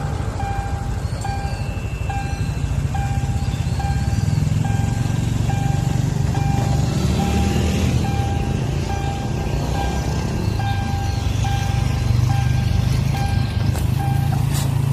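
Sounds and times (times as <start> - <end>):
low engine rumble: 0.0 - 14.9
level crossing alarm beeping: 0.3 - 14.5.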